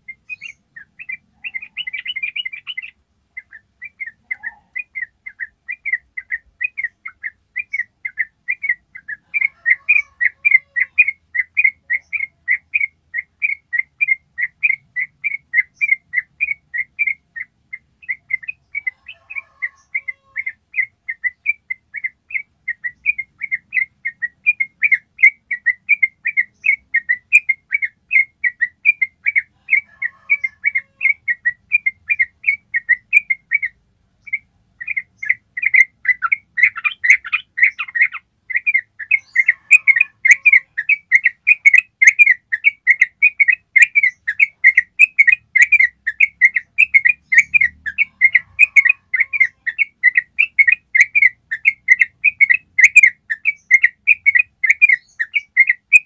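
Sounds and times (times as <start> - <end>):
bird chatter: 0.0 - 56.0
bulbul singing repeated notes: 0.0 - 56.0.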